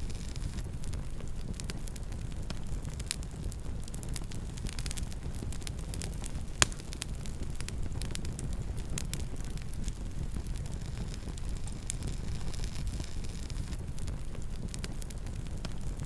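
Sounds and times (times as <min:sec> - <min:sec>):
burning wood crackling and popping: 0:00.0 - 0:16.0
campfire rumbling: 0:00.0 - 0:16.0.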